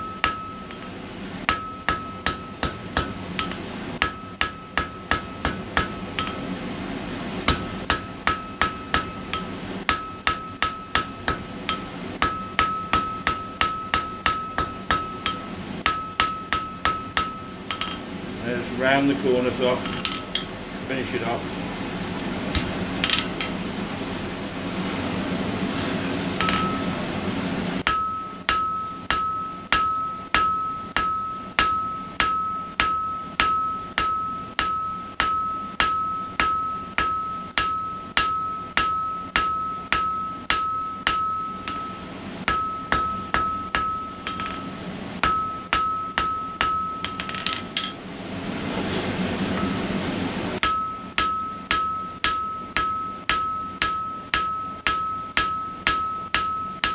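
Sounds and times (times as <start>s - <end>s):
hammer striking metal on anvil: 0.0s - 6.5s, 7.4s - 18.1s, 19.6s - 20.6s, 22.5s - 23.6s, 26.4s - 27.0s, 27.8s - 48.0s, 49.5s - 49.9s, 50.6s - 56.9s.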